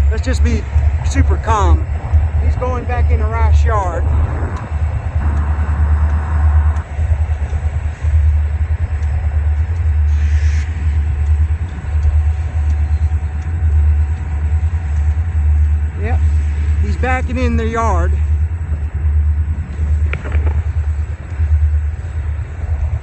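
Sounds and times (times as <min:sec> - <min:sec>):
freight train low rumble: 0:00.0 - 0:23.0.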